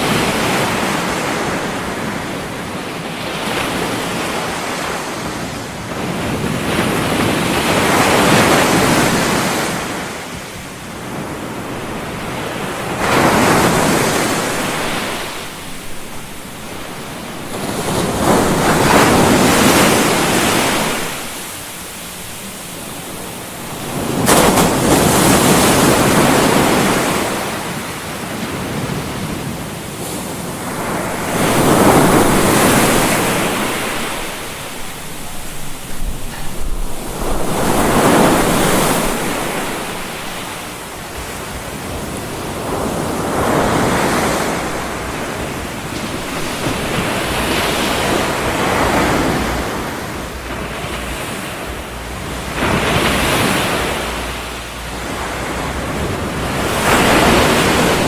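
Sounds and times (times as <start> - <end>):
ocean waves washing in: 0.0 - 58.0.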